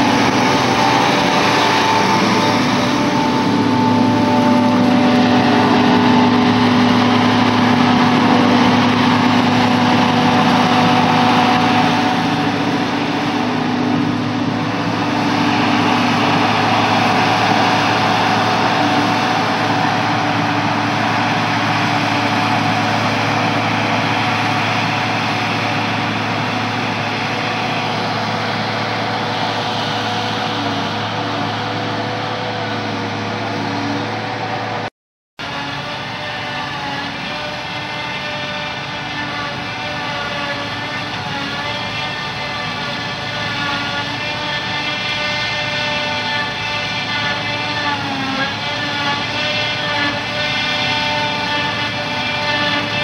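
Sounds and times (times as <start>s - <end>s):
diesel engines running under load: 0.0s - 53.0s.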